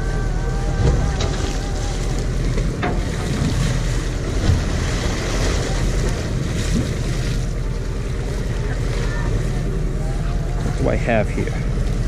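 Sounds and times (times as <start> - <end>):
low rumble: 0.0 - 12.0
waves washing against hull: 0.0 - 12.0.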